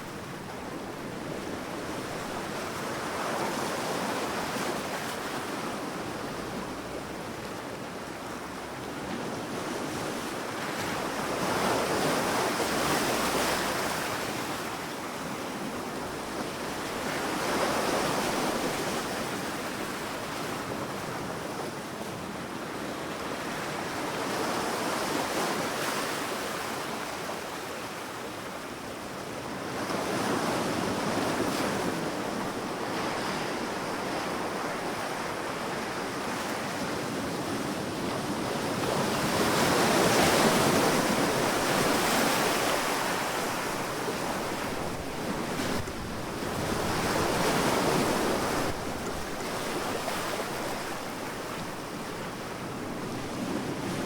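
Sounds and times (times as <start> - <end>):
waves breaking on sandy beach: 0.0 - 54.0.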